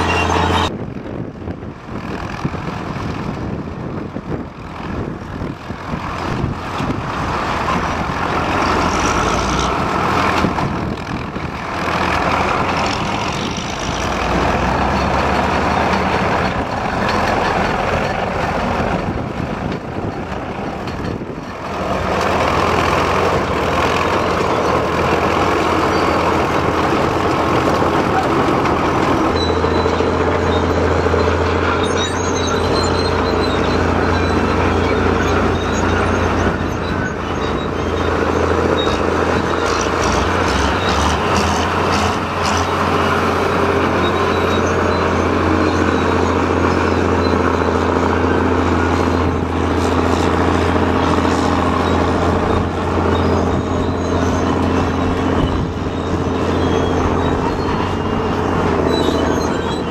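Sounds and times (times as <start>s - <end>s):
heavy earthmoving machines: 0.0s - 59.9s
tractor engine under load: 0.0s - 59.9s.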